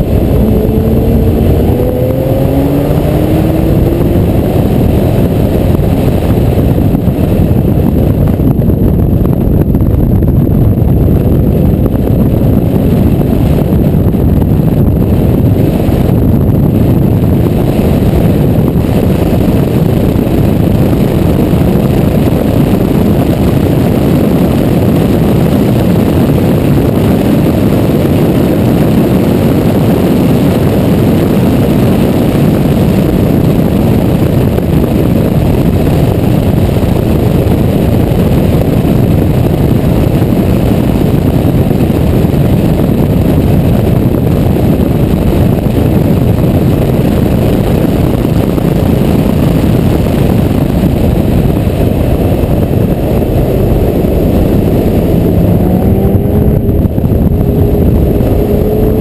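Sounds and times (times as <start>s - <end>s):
car engine: 0.0s - 59.0s
road noise: 0.0s - 59.0s
wind rumble: 0.0s - 59.0s.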